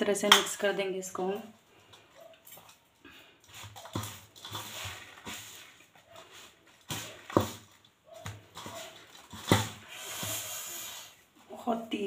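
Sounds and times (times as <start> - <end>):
hands squishing seeds in pan: 0.2 - 11.0.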